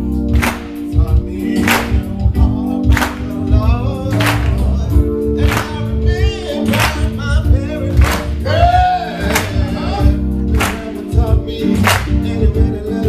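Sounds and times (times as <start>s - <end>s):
steady beat with sharp hits: 0.0s - 13.0s
male choir singing gospel: 0.1s - 13.0s.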